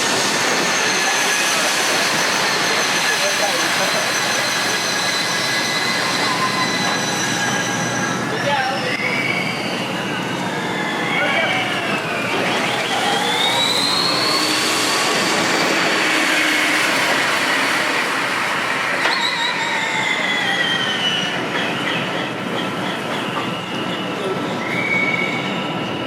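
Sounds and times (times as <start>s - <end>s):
electric race car whine: 0.0s - 21.6s.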